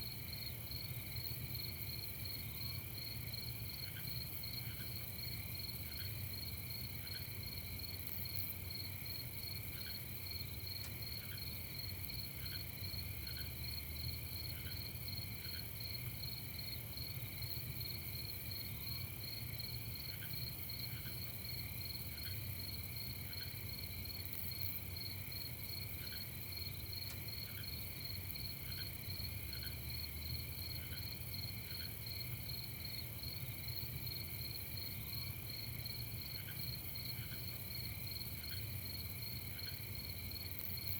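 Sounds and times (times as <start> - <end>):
crickets trilling: 0.1 - 40.9.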